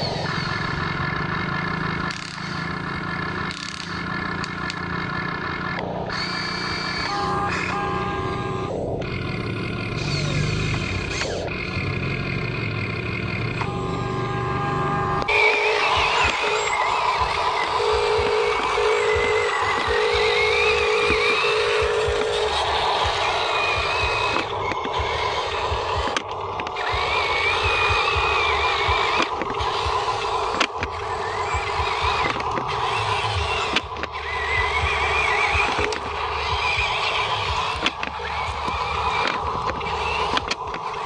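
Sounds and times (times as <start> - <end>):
toy truck electric motor whining: 0.0 - 41.0
rapid pulsing tone: 3.9 - 41.0.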